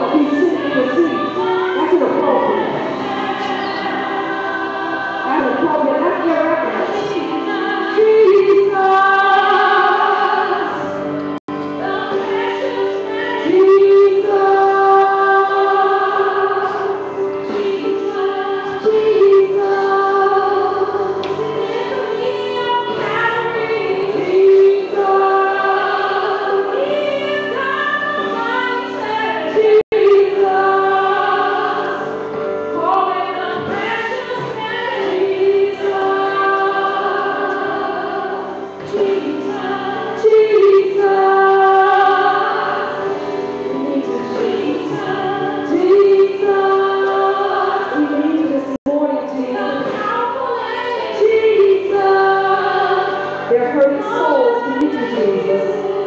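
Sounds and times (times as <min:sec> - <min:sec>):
choir singing gospel: 0:00.0 - 0:56.0.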